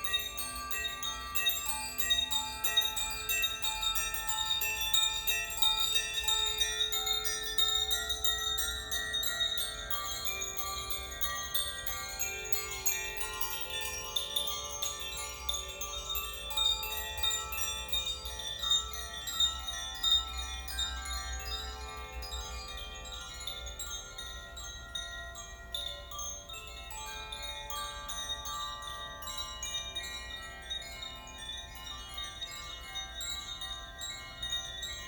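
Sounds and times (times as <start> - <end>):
chimes ringing: 0.0 - 35.0.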